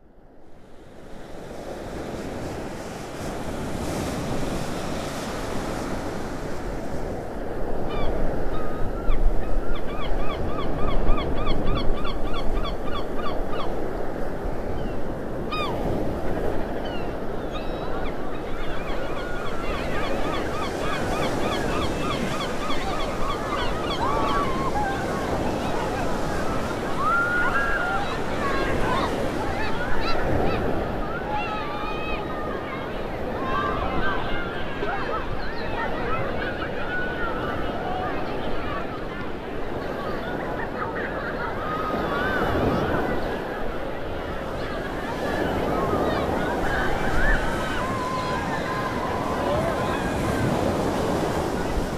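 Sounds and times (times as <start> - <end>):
waves washing on beach: 0.4 - 9.6, 10.3 - 51.9
seabirds calling: 7.8 - 51.9.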